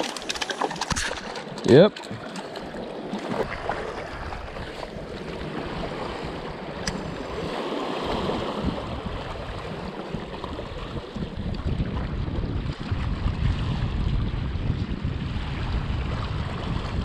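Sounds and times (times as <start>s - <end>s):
sea washing against rocks: 0.0s - 17.0s.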